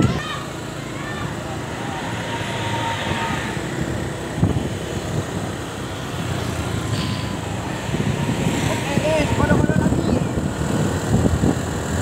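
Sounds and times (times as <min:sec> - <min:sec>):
traffic noise: 0:00.0 - 0:12.0
vehicle engine rumble: 0:00.0 - 0:12.0.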